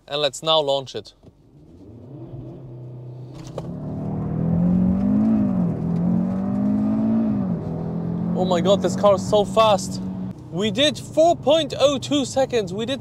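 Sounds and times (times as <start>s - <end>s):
car engine accelerating hard: 1.4s - 13.0s.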